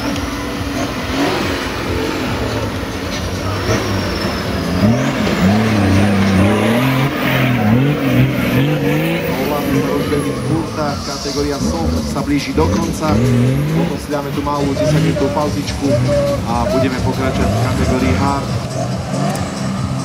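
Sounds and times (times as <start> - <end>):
off-road engine revving: 0.0 - 20.0.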